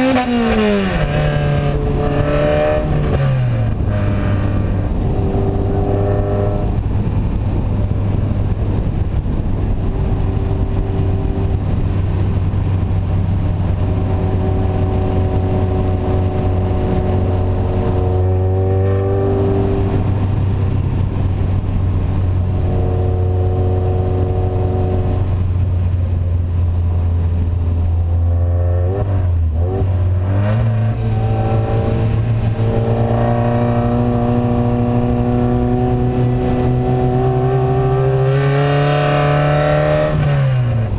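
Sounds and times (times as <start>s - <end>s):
loud unsilenced vehicle engine: 0.0s - 40.9s.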